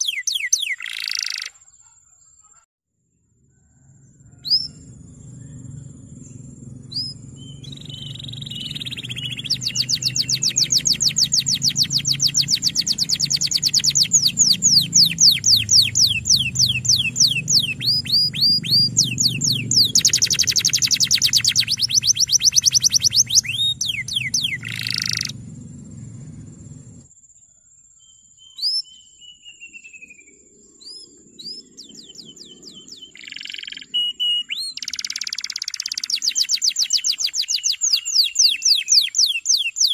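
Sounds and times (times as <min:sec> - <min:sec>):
canary singing chirps and trills: 0:00.0 - 0:02.6, 0:03.8 - 0:27.1, 0:27.9 - 0:39.9.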